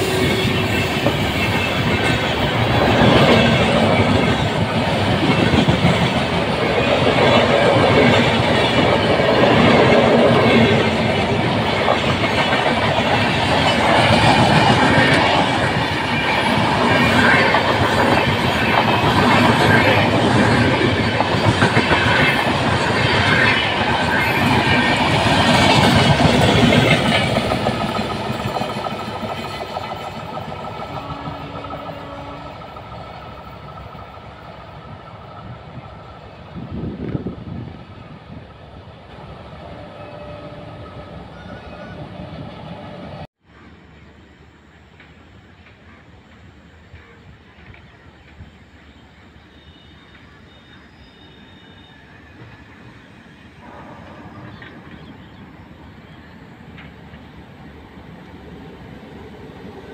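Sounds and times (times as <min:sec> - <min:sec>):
train wheels rattling on track: 0:00.0 - 0:59.9.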